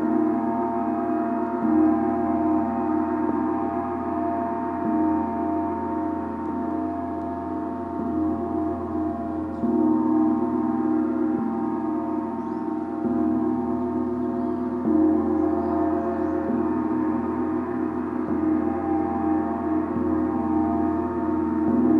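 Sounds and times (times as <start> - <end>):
gong ringing: 0.0 - 21.9.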